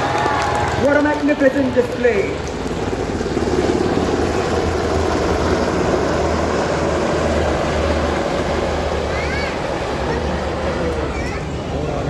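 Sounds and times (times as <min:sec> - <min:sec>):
helicopters flying past: 0:00.0 - 0:12.0.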